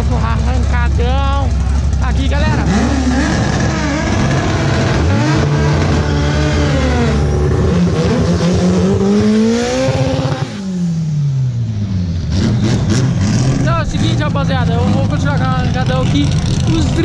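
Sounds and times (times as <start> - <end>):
car engine revving high: 0.0 - 17.0.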